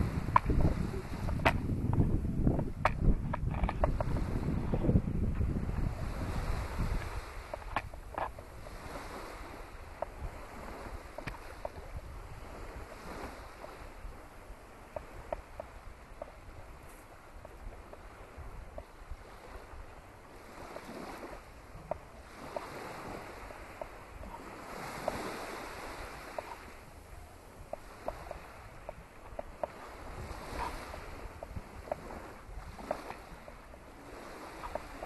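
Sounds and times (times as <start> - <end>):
small waves washing on sand: 0.0 - 35.0
wind rumbling on microphone: 0.0 - 35.0.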